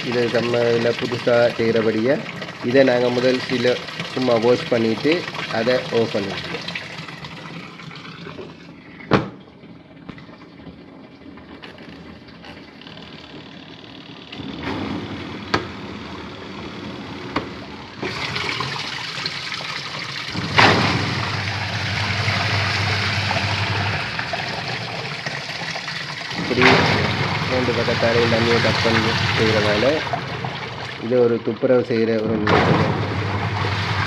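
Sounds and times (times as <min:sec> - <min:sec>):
water sloshing in washing machine: 0:00.0 - 0:34.0.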